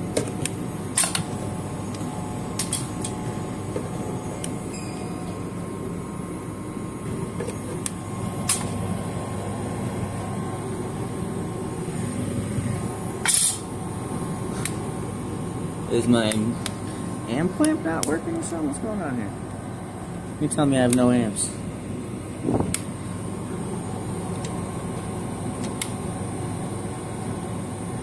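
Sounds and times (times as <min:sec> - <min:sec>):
refrigeration unit humming: 0:00.0 - 0:28.0.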